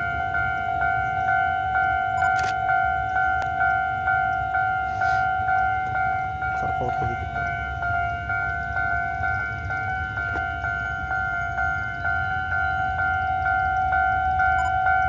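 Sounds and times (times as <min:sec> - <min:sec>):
level-crossing bell ringing: 0:00.0 - 0:15.0.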